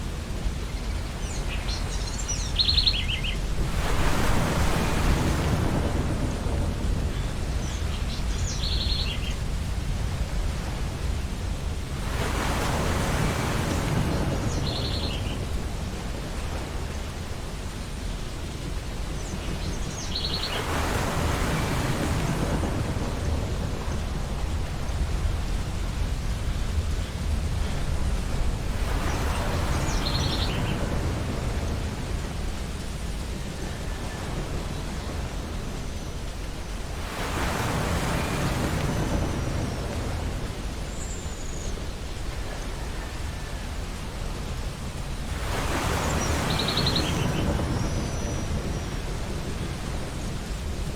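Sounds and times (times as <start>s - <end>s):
low surf rumble: 0.0s - 50.9s
ocean waves breaking: 0.0s - 50.9s.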